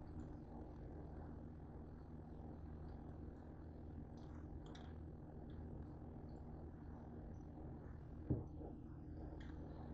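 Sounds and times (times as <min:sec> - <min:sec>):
low room hum: 0:00.0 - 0:09.9.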